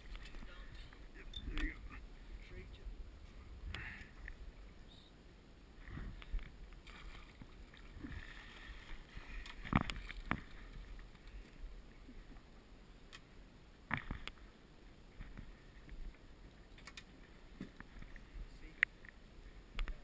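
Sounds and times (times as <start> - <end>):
boat low steady rumble: 0.0 - 20.0.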